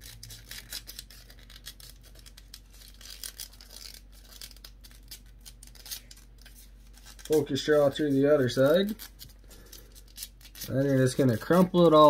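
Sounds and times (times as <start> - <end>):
paper wrapper crinkling and tearing: 0.0 - 12.0.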